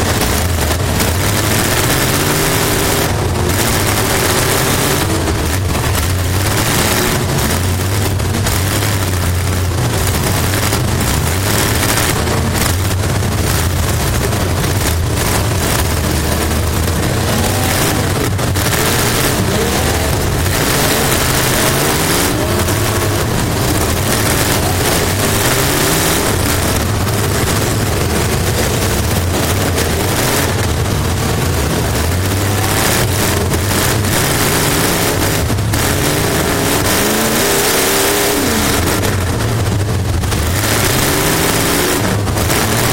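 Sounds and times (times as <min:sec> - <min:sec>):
race car engine revving: 0:00.0 - 0:42.9
wind and road noise: 0:00.0 - 0:42.9.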